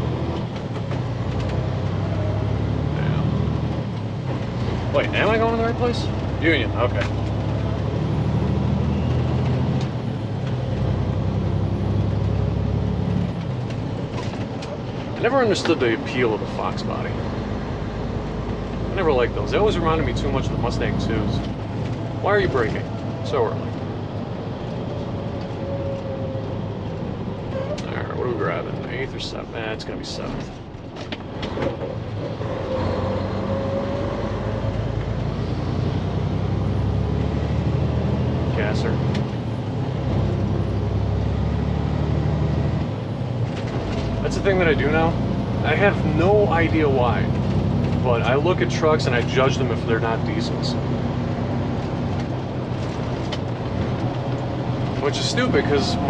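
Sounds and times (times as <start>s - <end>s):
truck diesel engine drone: 0.0s - 56.0s.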